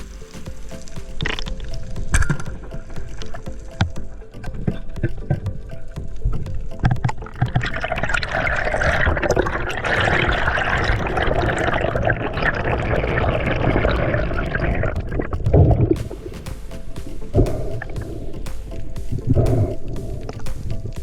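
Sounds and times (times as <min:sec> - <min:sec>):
rushing bubbling water: 0:00.0 - 0:21.0.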